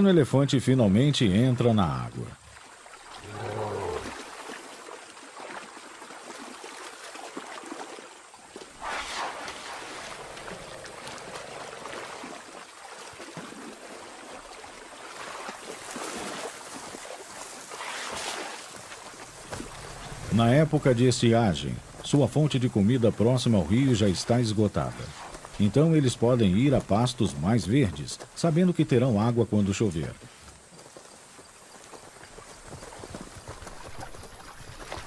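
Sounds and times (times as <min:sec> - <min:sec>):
river water running: 0:00.0 - 0:35.0
elephants splashing through water: 0:02.6 - 0:28.8, 0:29.9 - 0:35.0.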